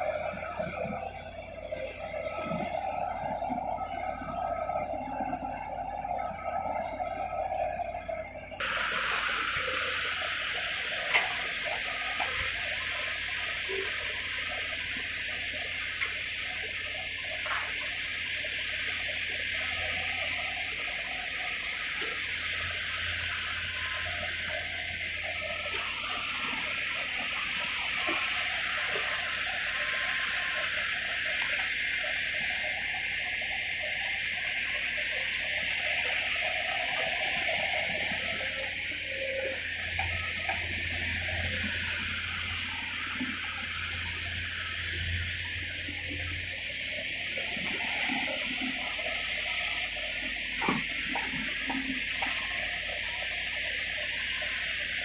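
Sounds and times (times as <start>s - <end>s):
mechanical drone: 0.0s - 55.0s
rushing water: 0.0s - 55.0s.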